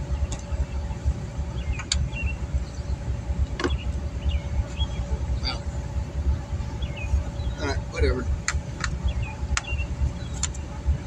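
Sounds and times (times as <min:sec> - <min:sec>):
low uneven rumble: 0:00.0 - 0:11.0.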